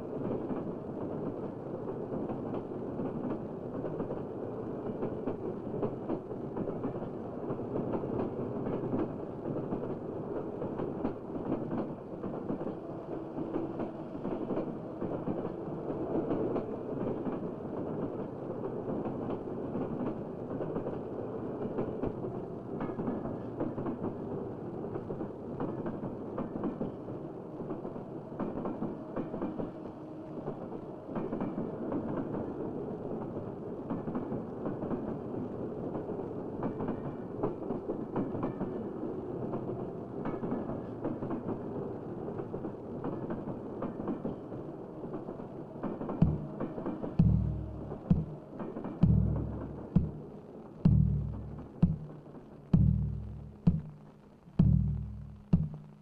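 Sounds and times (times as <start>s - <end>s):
rail clicks: 0.0s - 56.0s
train rattling on rails: 0.0s - 56.0s.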